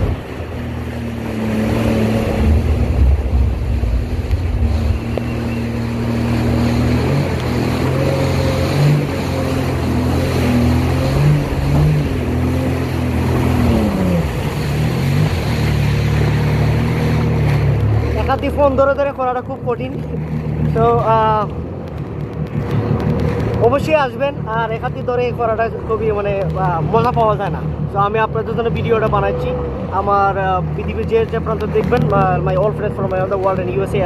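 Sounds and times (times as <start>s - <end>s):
jet ski engine droning: 0.0s - 34.0s
water rushing and spray: 0.0s - 34.0s.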